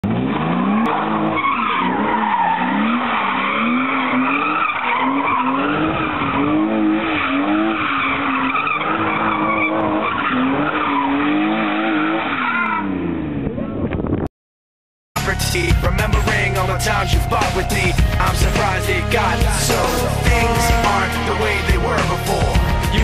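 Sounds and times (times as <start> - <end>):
car engine revving: 0.0 - 13.8, 15.2 - 23.0.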